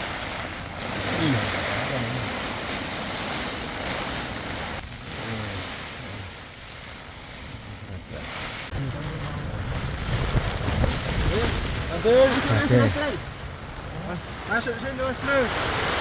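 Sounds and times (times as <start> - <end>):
strong storm wind: 0.0 - 16.0.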